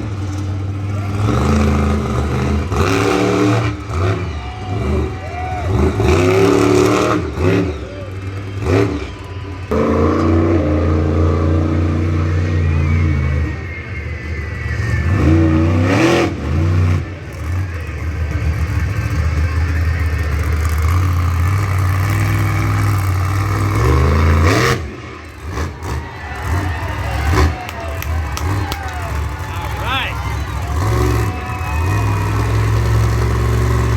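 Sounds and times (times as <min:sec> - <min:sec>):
truck engine revving hard: 0:00.0 - 0:33.9.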